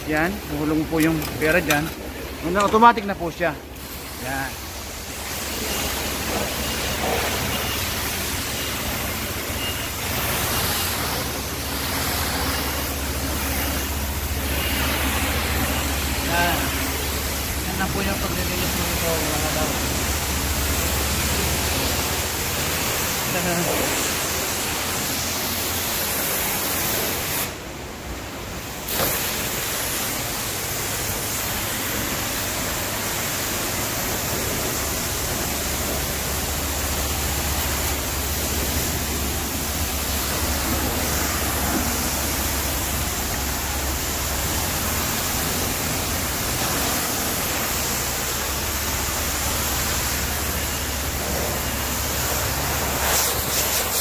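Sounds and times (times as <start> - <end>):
high-pressure water spray hissing: 0.0 - 54.0.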